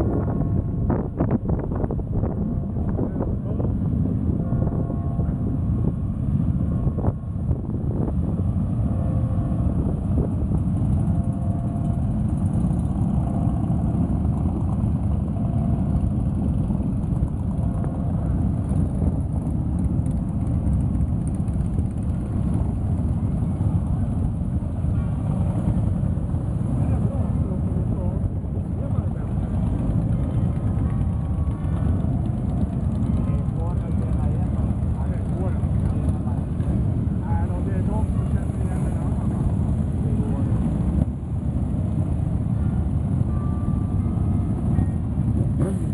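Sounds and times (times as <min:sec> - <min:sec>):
motorcycles passing slowly: 0:00.0 - 0:45.9.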